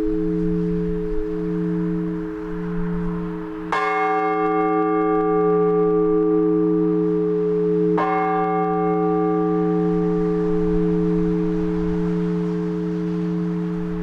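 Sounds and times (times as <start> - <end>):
large church bell ringing: 0.0 - 14.0.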